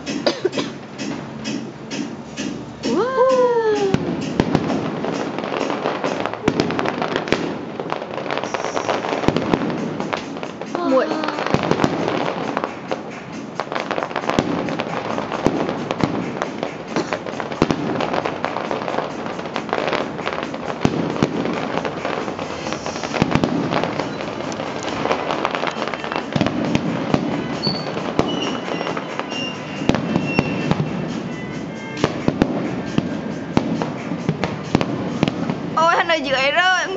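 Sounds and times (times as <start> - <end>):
fireworks bangs and crackling: 0.0 - 36.9.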